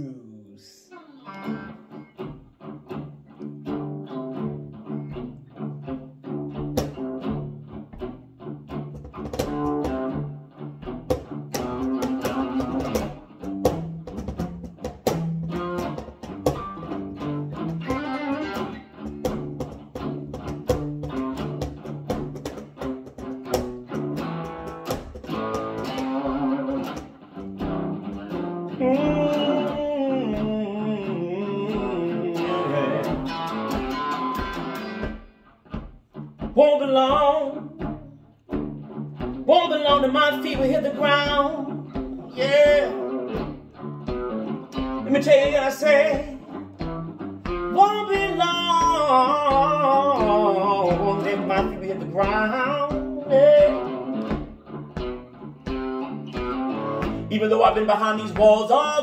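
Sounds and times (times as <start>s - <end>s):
electric guitar playing blues: 0.9s - 59.0s.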